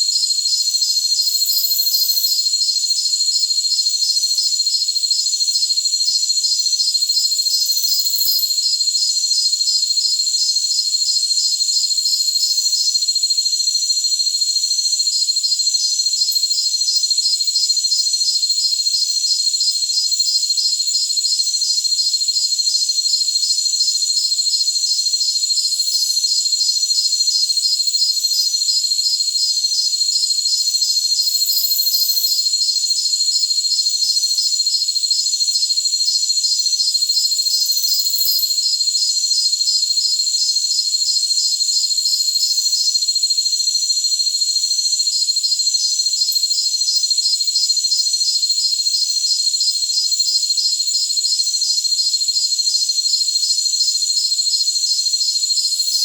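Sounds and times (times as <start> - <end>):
crickets trilling: 0.0 - 56.0
pulsing cricket chirps: 0.0 - 56.0.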